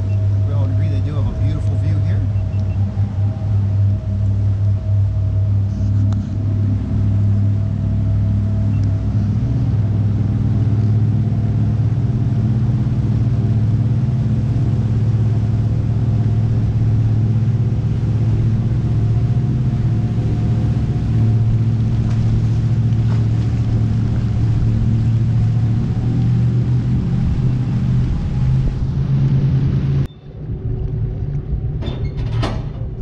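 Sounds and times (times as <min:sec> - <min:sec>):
boat engine droning: 0:00.0 - 0:33.0
water rushing off hull: 0:00.0 - 0:33.0.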